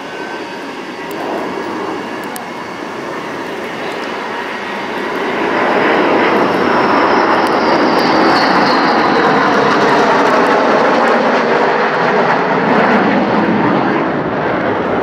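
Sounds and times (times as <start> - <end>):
jet fighters passing overhead: 0.0 - 15.0.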